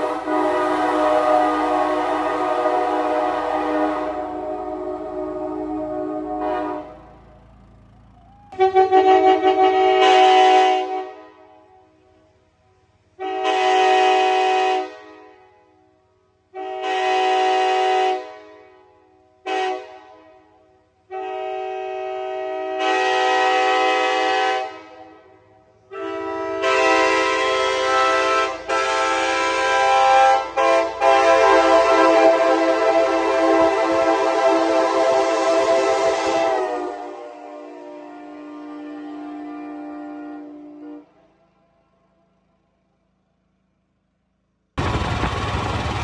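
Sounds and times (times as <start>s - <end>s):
locomotive air horn blasts echoing: 0.0s - 7.9s, 8.5s - 42.5s.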